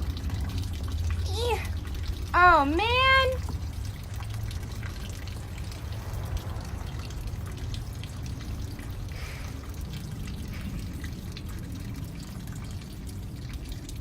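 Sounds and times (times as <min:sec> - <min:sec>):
steady low hum: 0:00.0 - 0:14.0
water dripping and trickling: 0:00.0 - 0:14.0.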